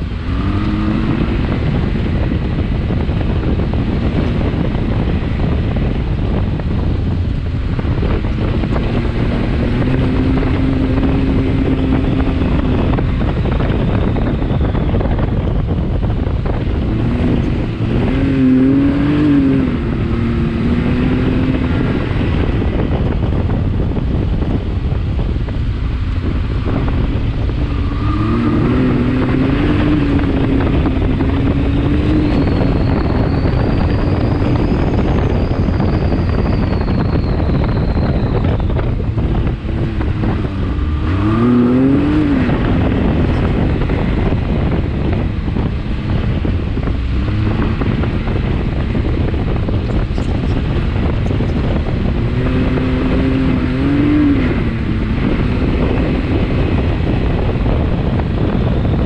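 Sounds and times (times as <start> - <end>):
engine revving while driving: 0.0 - 59.0.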